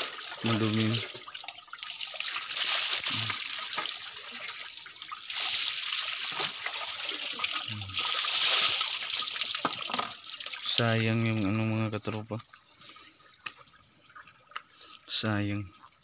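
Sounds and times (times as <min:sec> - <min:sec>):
water trickling and splashing: 0:00.0 - 0:14.8.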